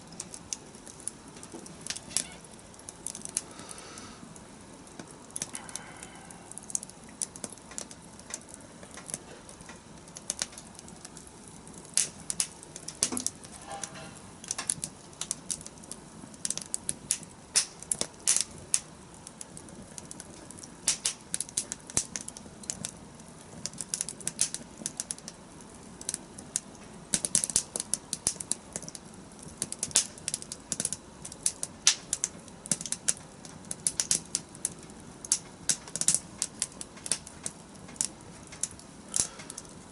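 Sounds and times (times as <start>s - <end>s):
campfire pops and snaps: 0.0s - 39.9s
hiss of flames: 0.0s - 39.9s.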